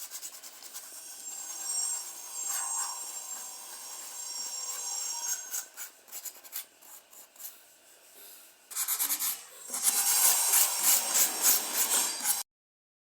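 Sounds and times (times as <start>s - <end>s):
scraping on carved wood: 0.0s - 7.6s, 8.7s - 12.4s.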